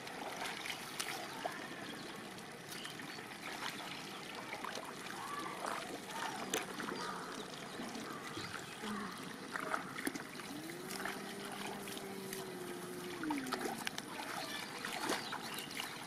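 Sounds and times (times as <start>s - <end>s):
trickling shallow water: 0.0s - 16.0s.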